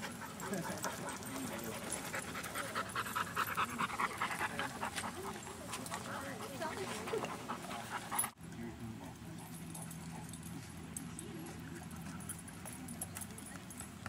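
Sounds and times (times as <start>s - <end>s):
dogs: 0.0s - 14.0s.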